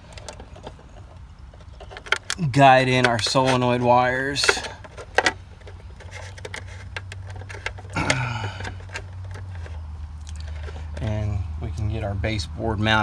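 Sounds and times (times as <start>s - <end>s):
wires clicking and rustling: 0.0s - 12.0s
steady low hum: 0.0s - 13.0s.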